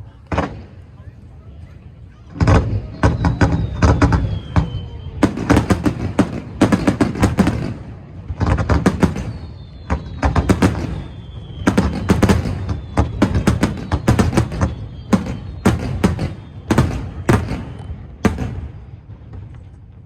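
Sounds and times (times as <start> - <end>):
fireworks booms: 0.2 - 1.0, 2.3 - 20.0
fireworks cracking and crackling: 2.3 - 20.0.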